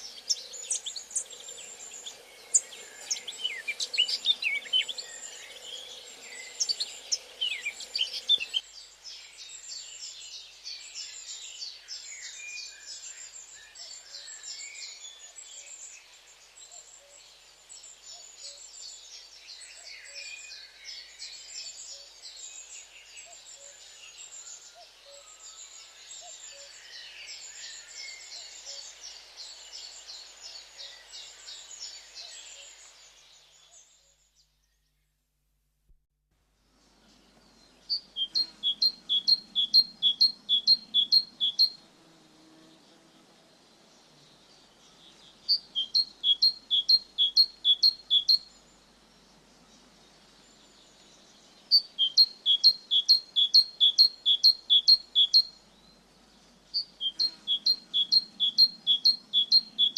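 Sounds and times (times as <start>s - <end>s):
small birds chirping: 0.0s - 34.9s, 36.7s - 41.8s, 42.4s - 59.9s.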